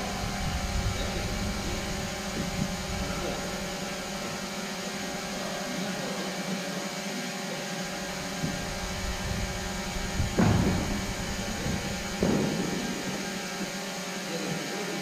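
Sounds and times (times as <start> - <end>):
sports hall hum: 0.0 - 15.0.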